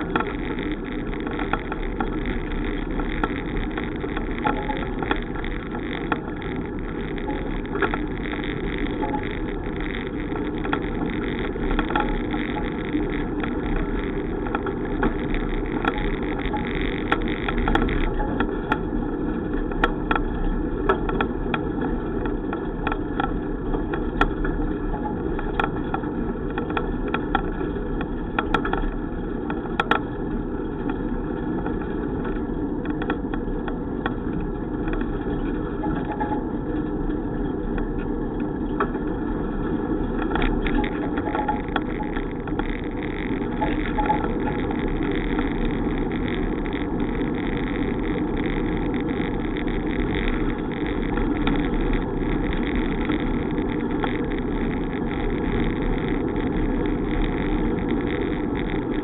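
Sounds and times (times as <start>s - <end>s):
bicycle riding rumble: 0.0s - 59.0s
sharp clicks and rattles: 0.0s - 59.0s.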